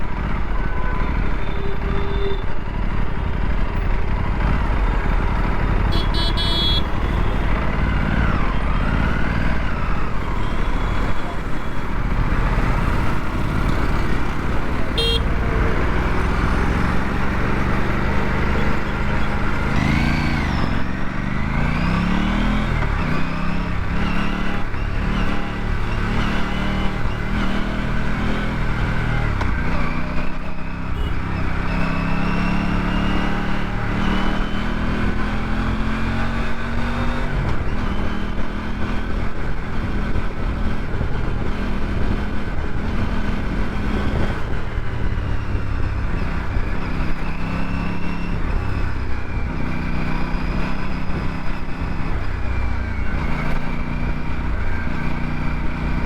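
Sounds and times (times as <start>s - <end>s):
motorcycle engine revving: 2.7s - 56.0s.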